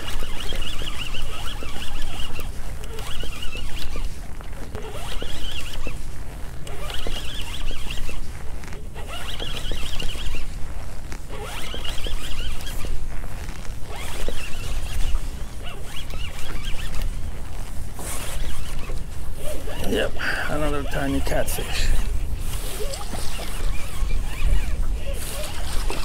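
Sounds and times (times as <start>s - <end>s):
fishing reel rattling: 0.0s - 26.0s.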